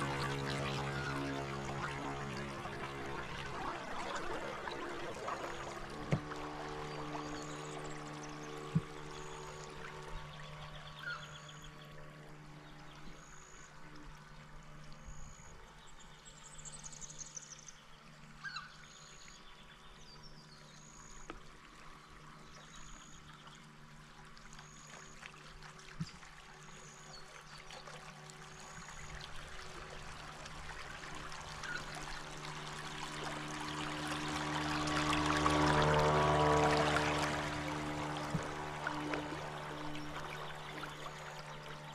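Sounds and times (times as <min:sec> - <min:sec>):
steady low hum: 0:00.0 - 0:19.3, 0:26.4 - 0:41.9
water trickling and lapping: 0:00.0 - 0:41.9.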